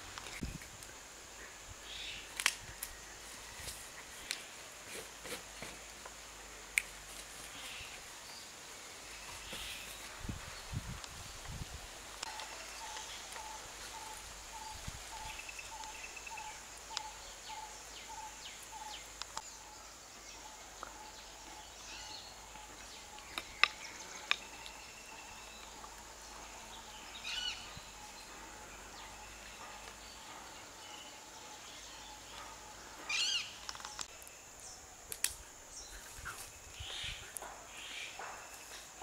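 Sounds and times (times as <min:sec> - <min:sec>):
high insect hum: 0:00.0 - 0:39.0.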